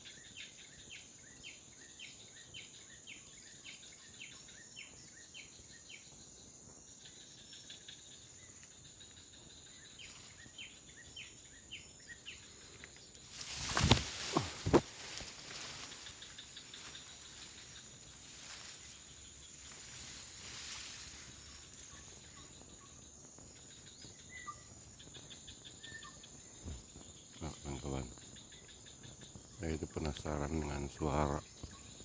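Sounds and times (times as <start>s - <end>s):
insects whining: 0.0s - 32.0s
rhythmic pulsing insect chirps: 0.0s - 32.0s.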